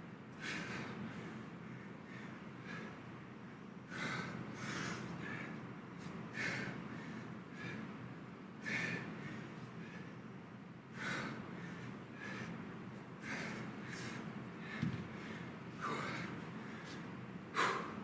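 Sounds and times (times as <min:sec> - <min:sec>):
man breathing hard: 0:00.4 - 0:03.1, 0:03.8 - 0:08.0, 0:08.6 - 0:10.2, 0:10.9 - 0:18.0.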